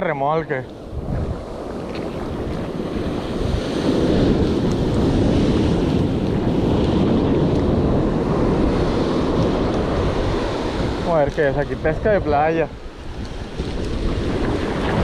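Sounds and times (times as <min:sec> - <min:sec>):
wind buffeting microphone: 0:00.0 - 0:15.0
surf breaking on beach: 0:00.8 - 0:15.0.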